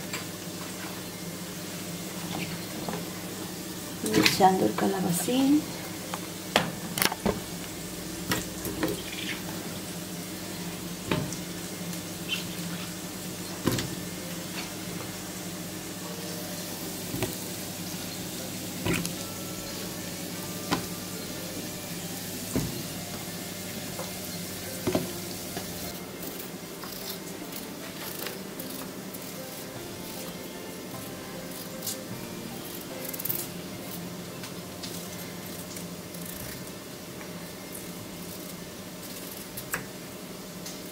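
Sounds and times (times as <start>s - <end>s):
steady hum: 0.0s - 40.9s.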